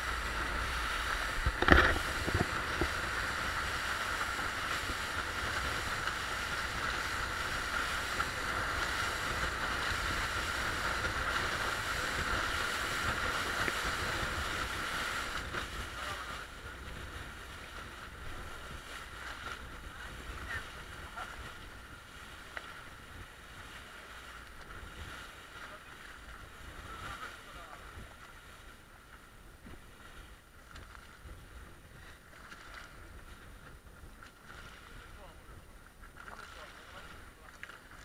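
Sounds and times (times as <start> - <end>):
wind buffeting microphone: 0.0 - 37.5
motorboat engine drone: 0.0 - 38.0
water splashing along hull: 0.0 - 38.0.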